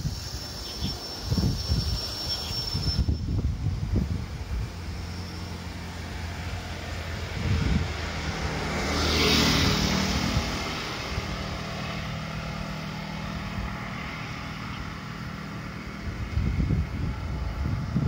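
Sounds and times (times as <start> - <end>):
low engine hum: 0.0 - 18.0
road vehicle passing: 0.0 - 18.0.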